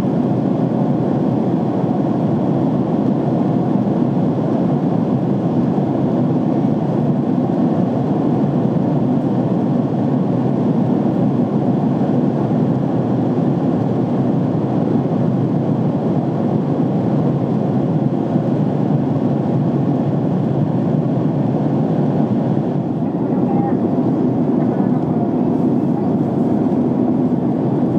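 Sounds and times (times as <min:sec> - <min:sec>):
jet airliner cabin noise: 0:00.0 - 0:27.9.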